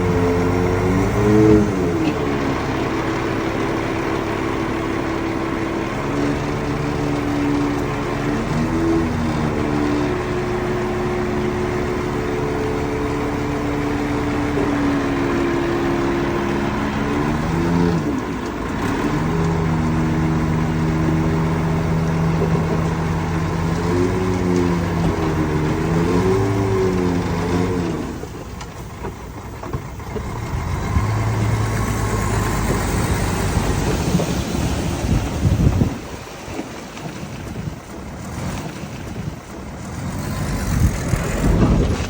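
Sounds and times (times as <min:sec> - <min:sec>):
heavy diesel engine under load: 0:00.0 - 0:42.0.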